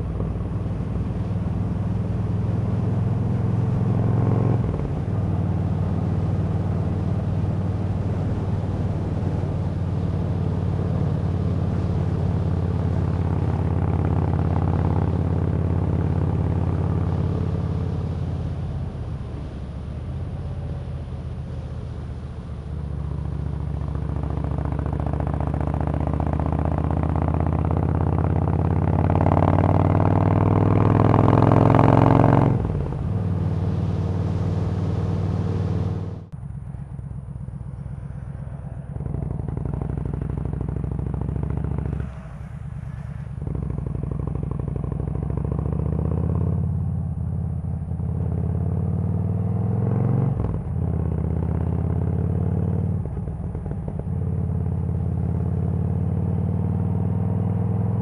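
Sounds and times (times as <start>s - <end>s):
motorcycle engine: 0.0s - 58.0s.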